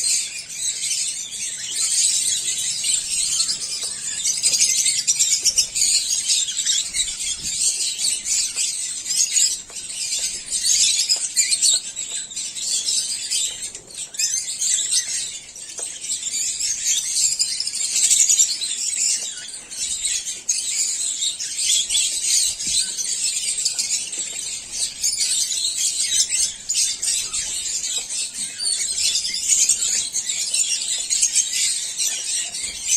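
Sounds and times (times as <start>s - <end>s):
lovebirds chattering: 0.0s - 32.9s.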